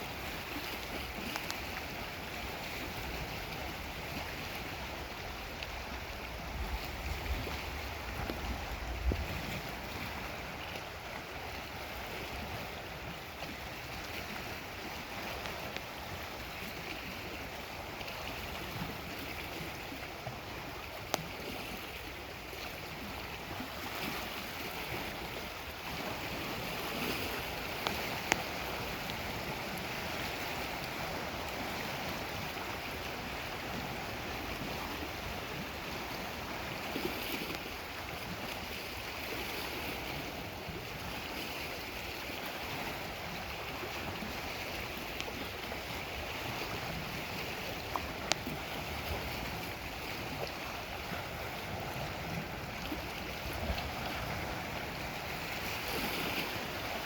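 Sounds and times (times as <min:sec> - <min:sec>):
waves washing against shore: 0:00.0 - 0:57.0.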